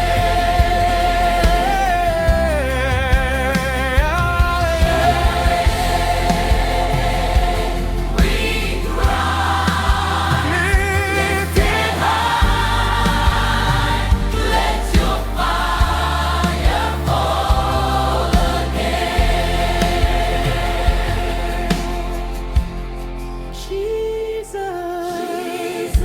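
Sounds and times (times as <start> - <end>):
djembe beat: 0.0 - 23.0
deep bass: 0.0 - 24.5
choir holding long notes: 4.8 - 26.0.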